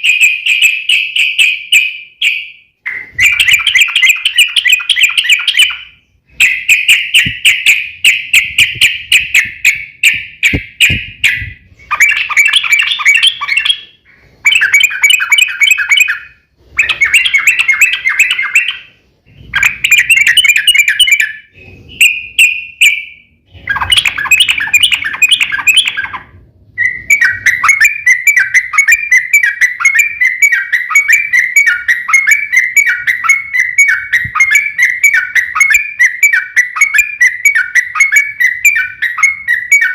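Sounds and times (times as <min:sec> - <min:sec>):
bird rapid rattling song: 0:00.0 - 0:39.9.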